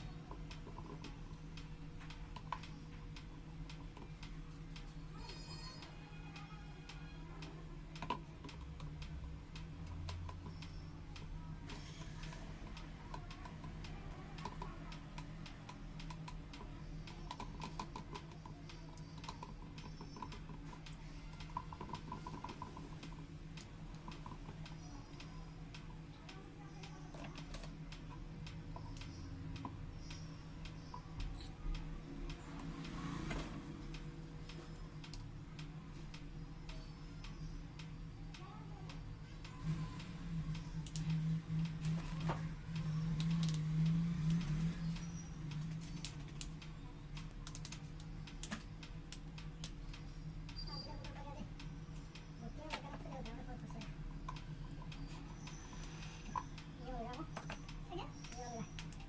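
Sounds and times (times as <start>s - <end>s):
light clicks and taps: 0.0s - 59.0s
steady low hum: 0.0s - 59.0s.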